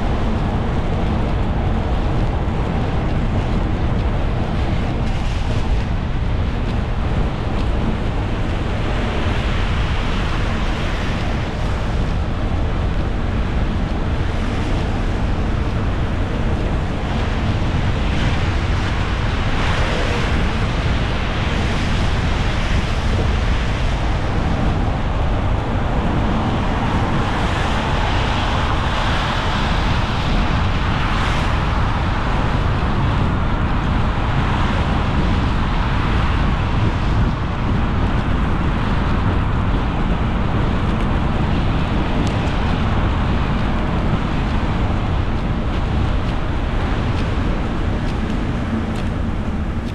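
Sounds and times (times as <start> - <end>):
low road rumble: 0.0 - 49.9.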